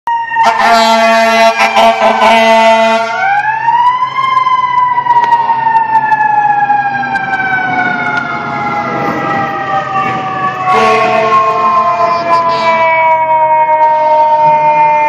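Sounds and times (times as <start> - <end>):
fire engine siren wailing: 0.1 - 15.0
siren blast with second tones: 0.1 - 15.0.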